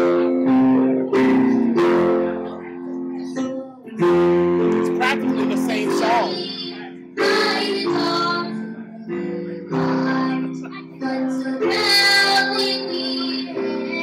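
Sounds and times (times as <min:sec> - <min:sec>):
guitar accompaniment: 0:00.0 - 0:14.0
girl singing into a microphone: 0:02.4 - 0:14.0.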